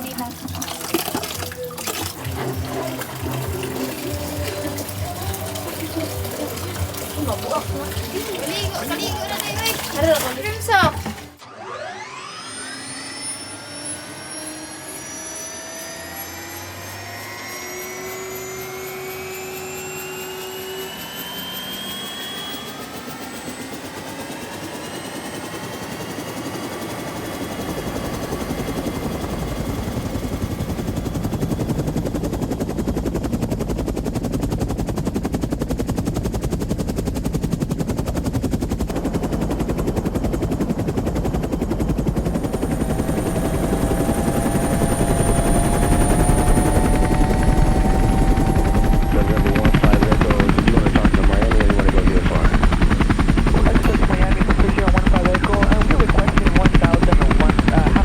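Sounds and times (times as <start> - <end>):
helicopter rotor chopping: 0.0 - 58.0.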